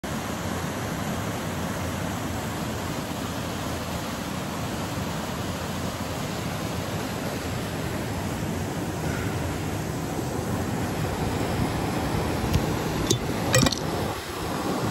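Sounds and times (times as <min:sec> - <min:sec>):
waterfall rushing over rocks: 0:00.1 - 0:14.9.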